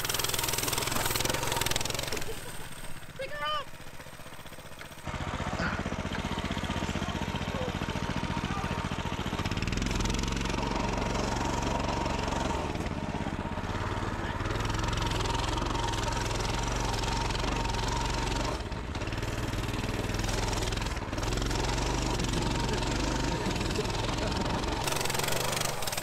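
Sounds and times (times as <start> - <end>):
pit bike engine revving: 0.0 - 26.0.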